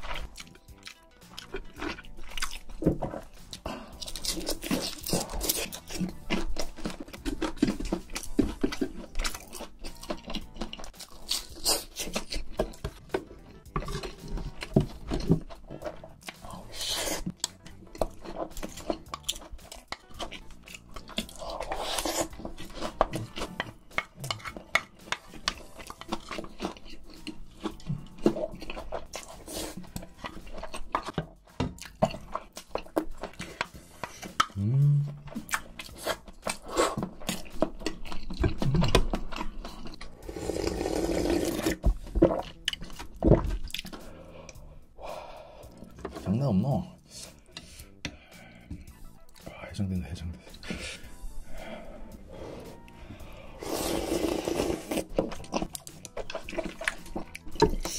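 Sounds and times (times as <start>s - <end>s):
crunchy chewing: 0.0s - 46.3s, 50.5s - 57.9s.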